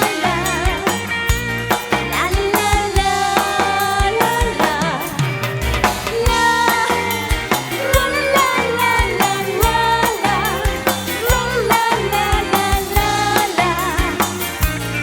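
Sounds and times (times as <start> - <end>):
drum kit beat: 0.0 - 15.0.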